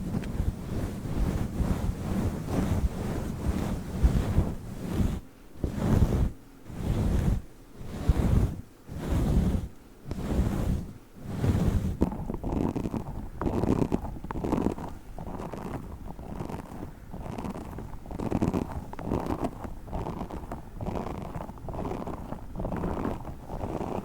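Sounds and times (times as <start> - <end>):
microphone windscreen rubbing: 0.0 - 24.0.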